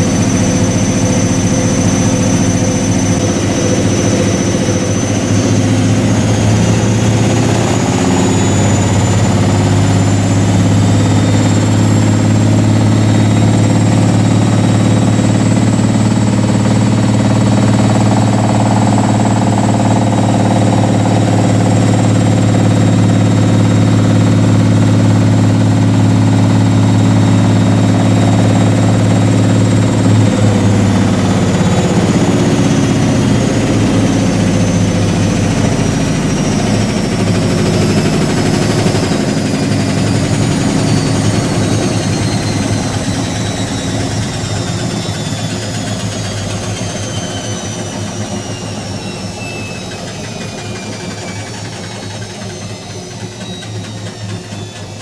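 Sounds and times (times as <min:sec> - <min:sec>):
high motor whine: 0:00.0 - 0:55.0
washing machine spin rumble: 0:00.0 - 0:55.0.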